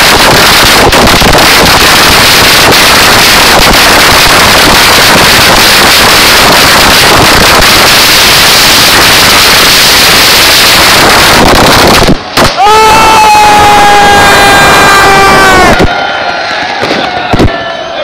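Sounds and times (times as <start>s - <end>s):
firework hissing crackle: 0.0s - 17.6s
firework sharp cracks: 0.0s - 17.7s.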